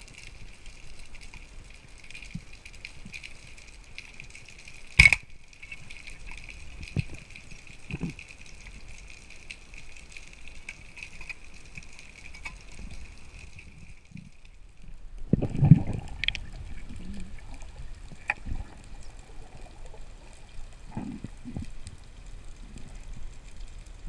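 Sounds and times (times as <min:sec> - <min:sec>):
underwater rumbling and gurgling: 0:00.0 - 0:24.0.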